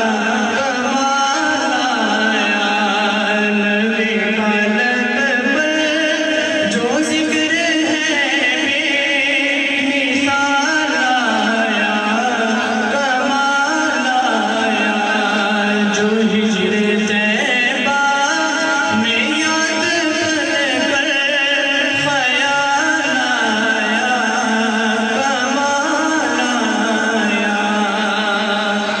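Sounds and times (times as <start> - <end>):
man singing devotional hymn: 0.0 - 29.0.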